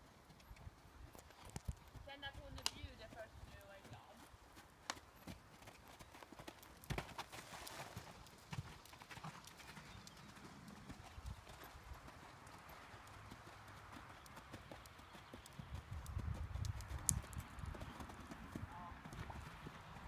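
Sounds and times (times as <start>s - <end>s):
horse hooves thudding on sand: 0.3s - 20.0s.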